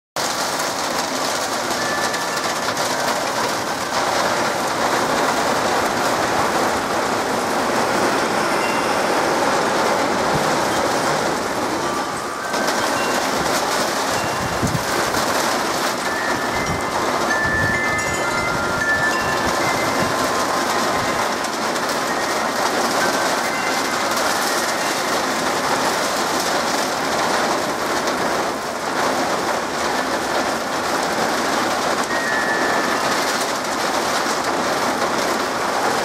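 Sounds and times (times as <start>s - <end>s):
heavy rain pouring: 0.2s - 36.0s.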